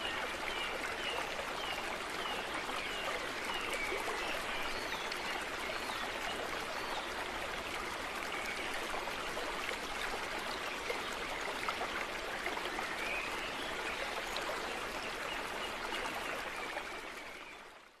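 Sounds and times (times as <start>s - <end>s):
flowing stream water: 0.0s - 18.0s.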